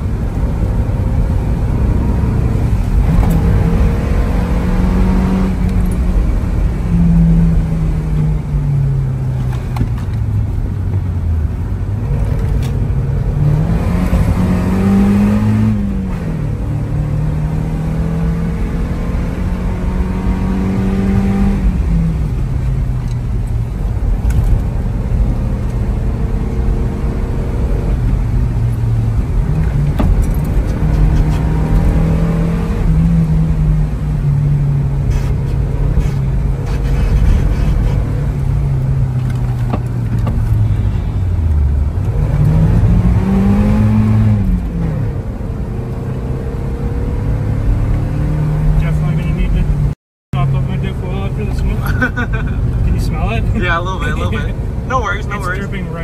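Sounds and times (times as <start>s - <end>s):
car engine from inside cabin: 0.0s - 56.0s
tyres rumbling on wet road: 0.0s - 56.0s.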